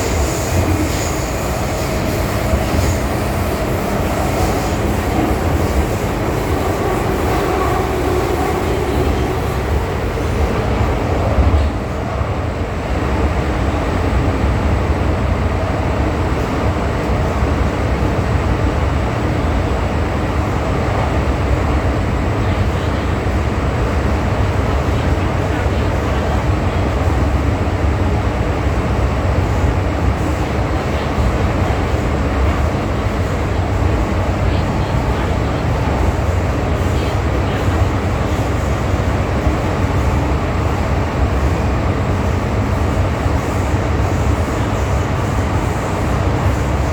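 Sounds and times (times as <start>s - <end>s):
metro train rumbling: 0.0s - 46.9s.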